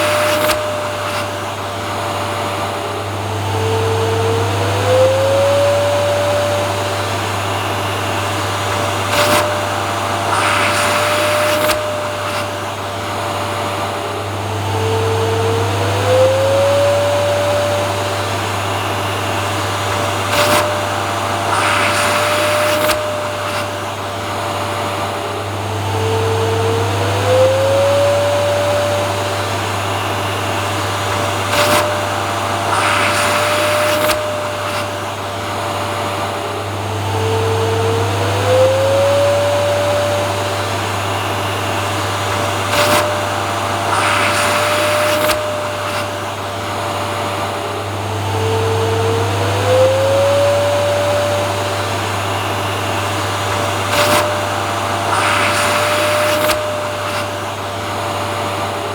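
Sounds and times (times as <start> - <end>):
hiss bursts: 0.0 - 58.9
vacuum cleaner running: 0.0 - 58.9.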